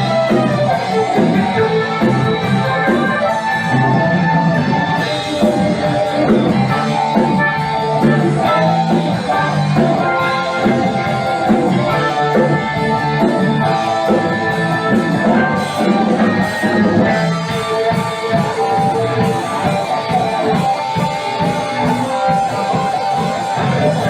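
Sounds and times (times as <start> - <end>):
bass line: 0.0 - 24.0
drum kit: 0.0 - 24.0
guitar: 0.0 - 24.0.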